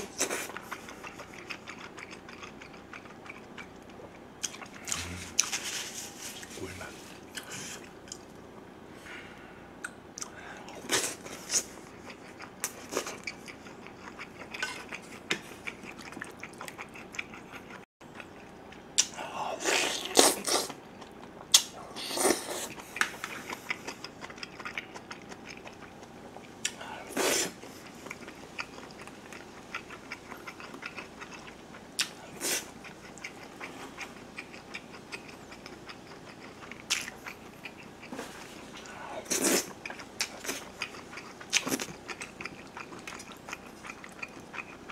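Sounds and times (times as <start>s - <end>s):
wet chewing: 0.0s - 6.5s, 9.8s - 19.2s, 20.0s - 44.9s.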